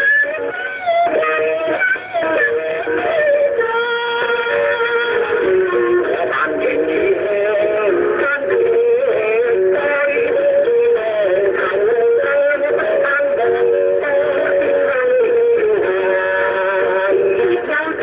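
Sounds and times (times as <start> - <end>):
instrumental accompaniment: 0.0 - 18.0
vocal duet singing: 0.0 - 18.0.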